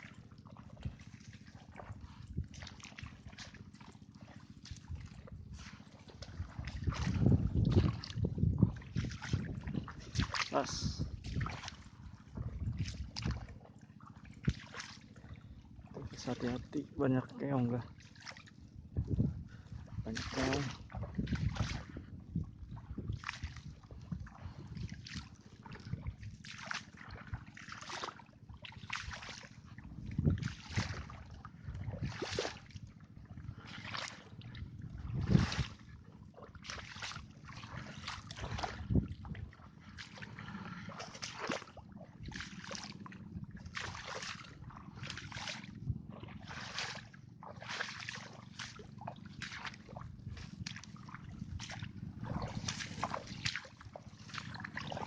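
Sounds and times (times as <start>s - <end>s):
heavy water splashes: 0.0s - 22.0s, 22.7s - 32.8s, 33.5s - 55.0s
footsteps sloshing in water: 0.0s - 55.0s.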